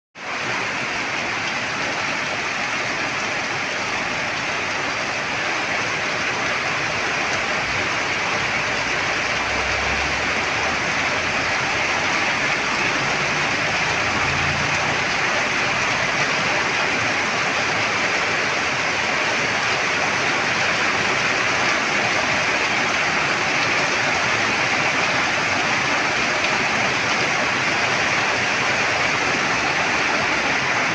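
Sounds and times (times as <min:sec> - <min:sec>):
heavy rain pouring: 0:00.2 - 0:30.9.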